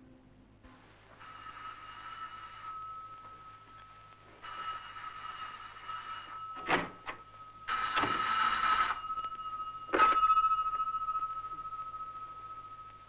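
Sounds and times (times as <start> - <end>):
telephone bell ringing: 1.2 - 13.0.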